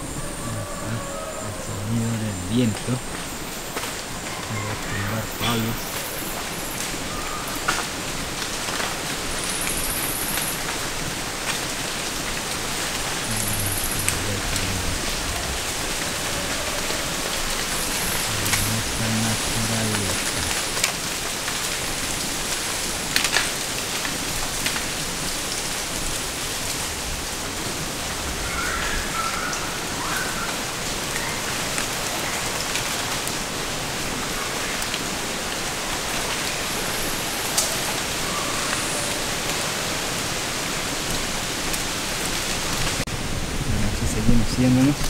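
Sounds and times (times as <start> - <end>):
wind rushing through trees: 0.0 - 45.0.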